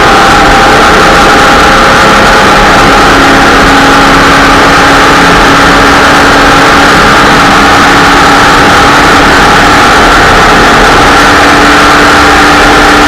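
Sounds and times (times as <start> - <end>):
race car engine running hard: 0.0 - 13.0
wind and road noise: 0.0 - 13.0.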